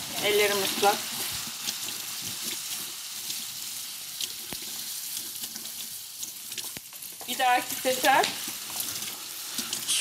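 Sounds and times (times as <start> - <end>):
beef sizzling in oil: 0.0 - 10.0.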